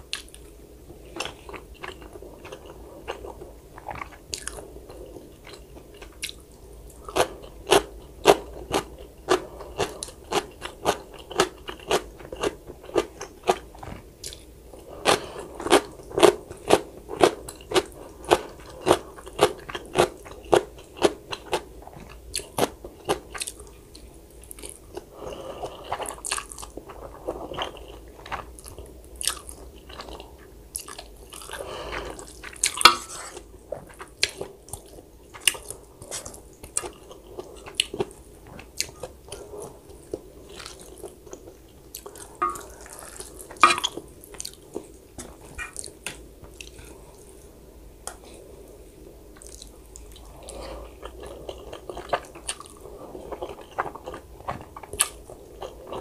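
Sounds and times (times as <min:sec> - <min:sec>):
person chewing crunchy food: 0:00.1 - 0:47.5, 0:49.4 - 0:56.0.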